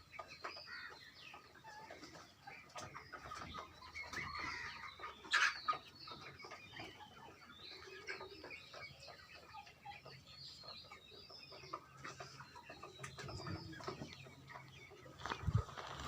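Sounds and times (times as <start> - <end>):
chickens clucking and chirping: 0.0 - 16.0.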